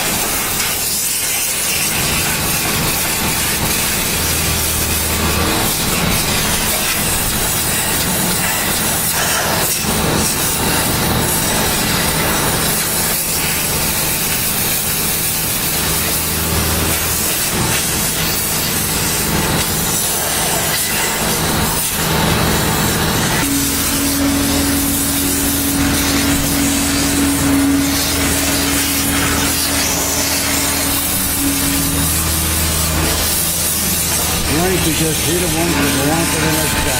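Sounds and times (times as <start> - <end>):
steady low hum: 0.0 - 36.9
steam cleaner hissing: 0.0 - 36.9.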